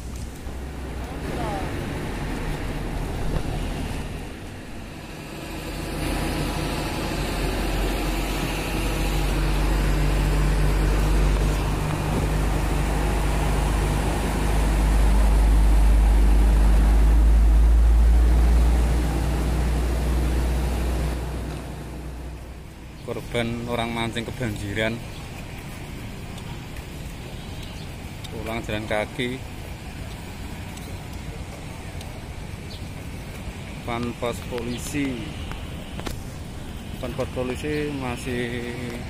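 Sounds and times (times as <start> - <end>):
truck engine rumble: 0.0 - 39.0
tyres splashing through water: 0.0 - 39.0.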